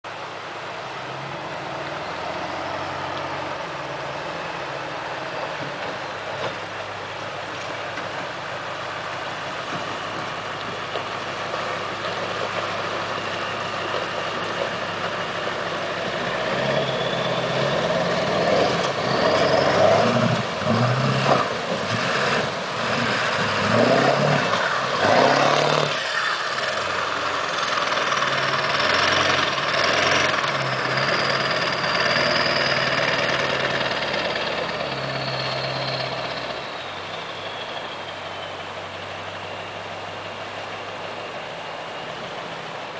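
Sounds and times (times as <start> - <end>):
river rushing: 0.0 - 42.9
water splashing around tyres: 0.1 - 42.9
diesel truck engine revving: 0.9 - 42.9.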